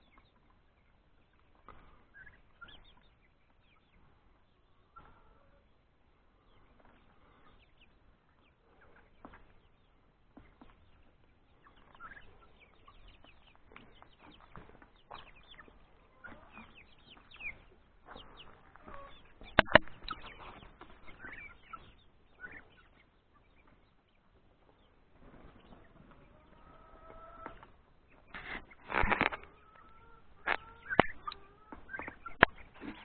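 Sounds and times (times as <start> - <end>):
chicken chirping calls: 0.0 - 33.0
chickens clucking: 0.0 - 33.0.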